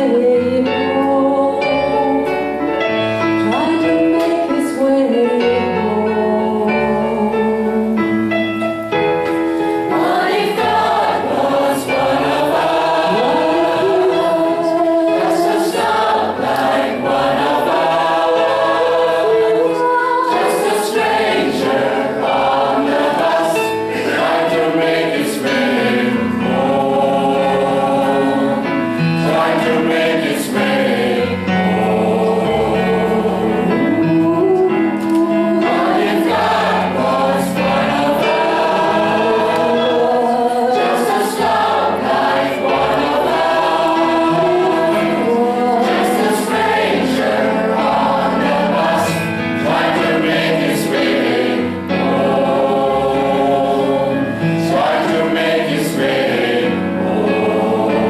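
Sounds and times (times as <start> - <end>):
gospel choir singing in harmony: 0.0 - 58.0.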